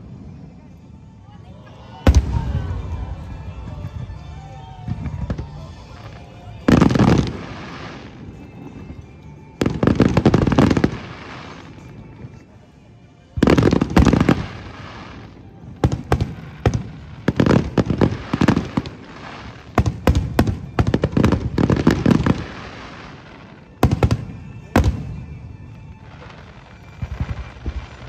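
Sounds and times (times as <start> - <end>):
fireworks bursting: 0.0 - 12.6, 13.3 - 28.0.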